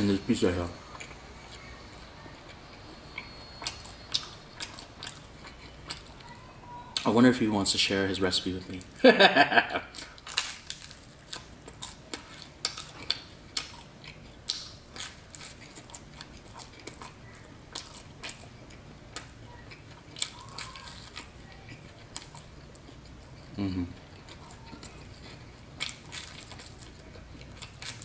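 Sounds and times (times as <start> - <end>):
person chewing pizza: 0.0 - 6.4, 8.7 - 28.0.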